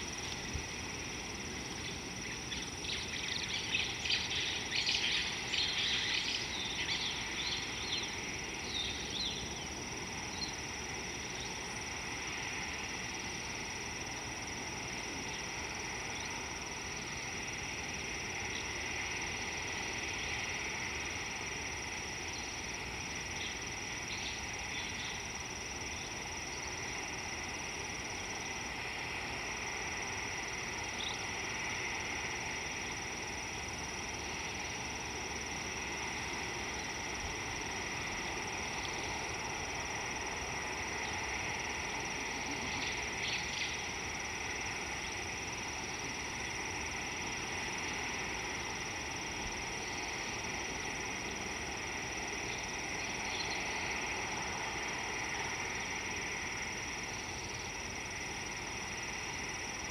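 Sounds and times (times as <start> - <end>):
background hiss: 0.0 - 59.9
insect chorus: 0.0 - 59.9.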